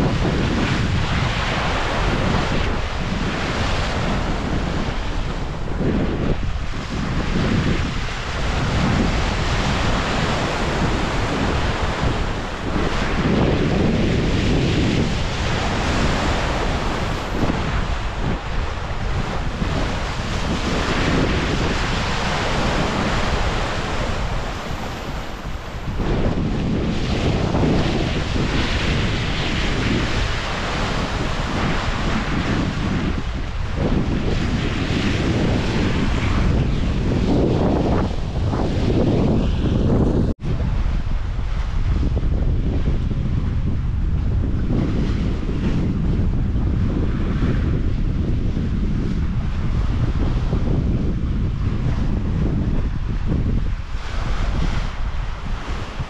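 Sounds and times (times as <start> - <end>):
sea water rushing at bow: 0.0 - 56.0
wind buffeting microphone: 0.0 - 56.0.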